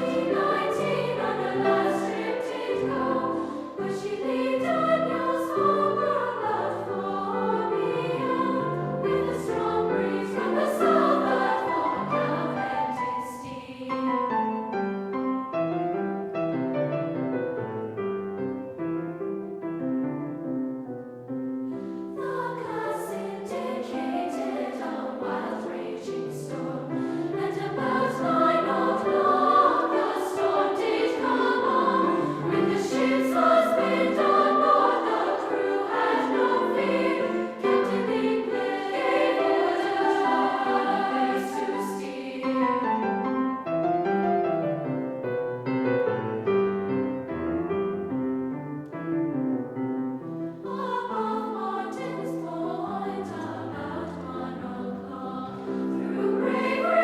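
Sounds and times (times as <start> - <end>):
choir singing: 0.0 - 15.8, 21.6 - 46.6, 50.2 - 57.0
piano accompaniment: 0.0 - 57.0.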